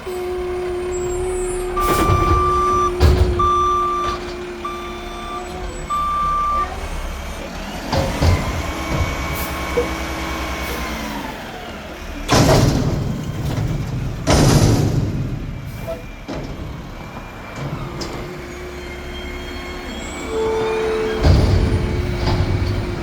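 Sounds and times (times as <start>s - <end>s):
garbage truck engine rumble: 0.0s - 23.0s.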